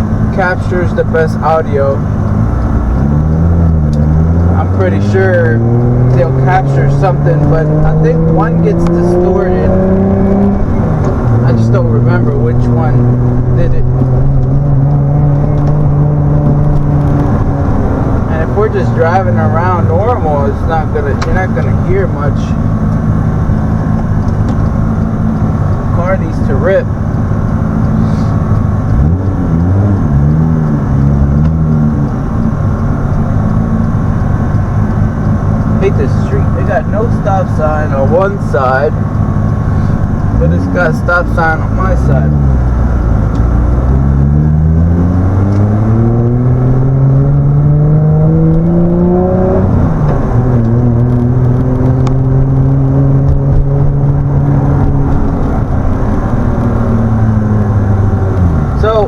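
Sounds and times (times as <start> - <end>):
car engine droning from inside: 0.0 - 59.0.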